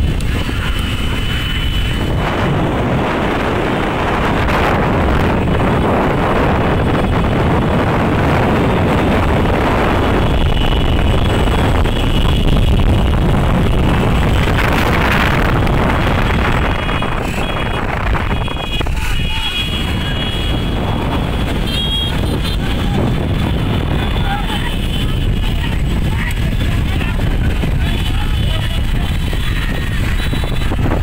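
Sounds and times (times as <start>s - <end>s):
motor vehicles running: 0.0s - 31.0s
wind buffeting on microphone: 0.0s - 31.0s.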